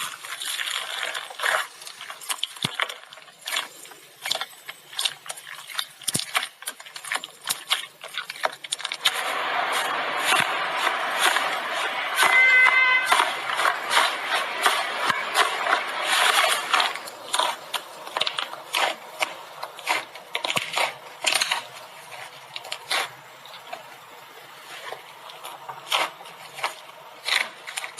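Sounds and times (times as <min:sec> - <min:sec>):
air bubbles crackling and popping: 0:00.0 - 0:27.9.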